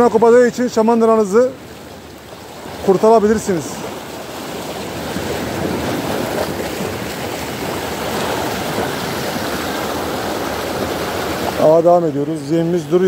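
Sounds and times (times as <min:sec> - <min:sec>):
rough sea waves washing ashore: 0:00.0 - 0:13.0.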